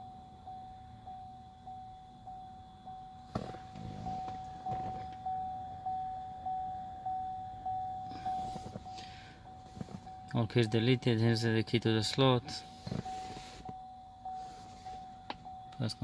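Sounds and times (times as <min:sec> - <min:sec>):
car warning chime dinging: 0:00.0 - 0:16.0.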